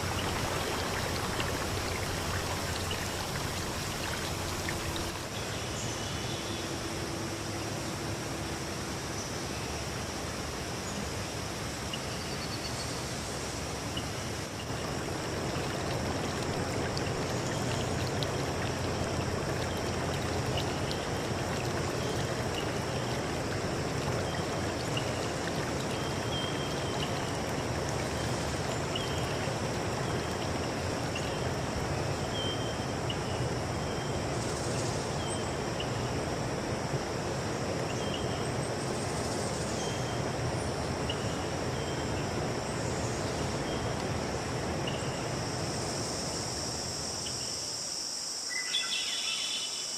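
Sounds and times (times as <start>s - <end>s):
high insect drone: 0.0s - 11.7s, 14.3s - 49.9s
stream water running: 0.0s - 49.9s.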